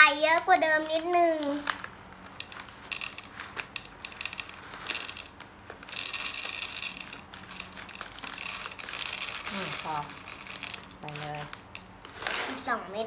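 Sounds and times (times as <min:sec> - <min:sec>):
popcorn kernels rattling in pan: 0:00.8 - 0:12.1.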